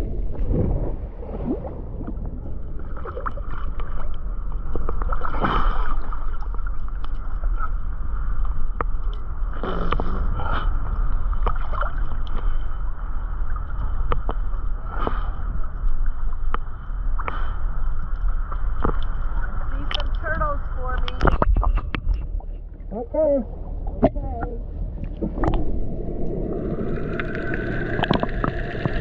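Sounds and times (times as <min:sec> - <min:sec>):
boat engine rumble: 0:00.0 - 0:29.0
water gurgling and sloshing: 0:00.0 - 0:29.0.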